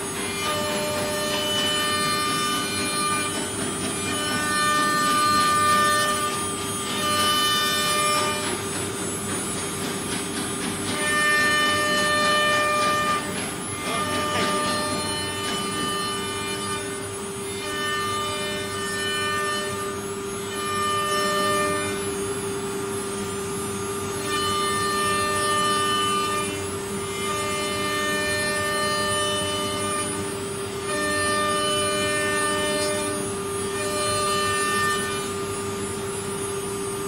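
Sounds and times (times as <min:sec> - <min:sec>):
wood router spindle whine: 0:00.0 - 0:37.0.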